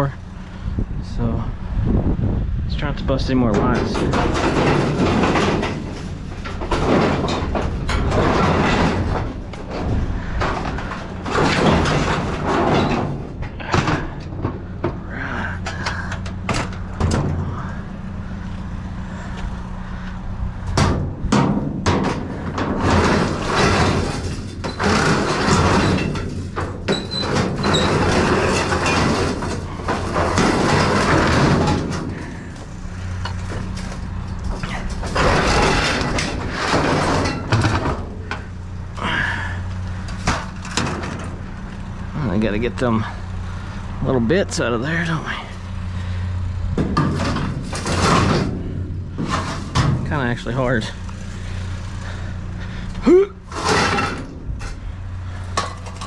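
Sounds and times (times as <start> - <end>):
low engine hum: 0.0 - 56.0
sheet metal clattering and scraping: 2.8 - 56.0.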